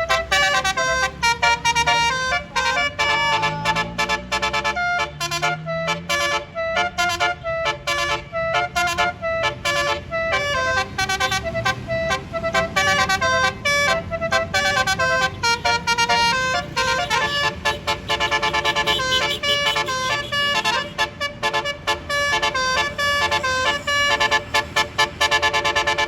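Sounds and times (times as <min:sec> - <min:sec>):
bus engine rumble: 0:00.0 - 0:26.0
multi-trumpet air horn tunes: 0:00.0 - 0:26.0.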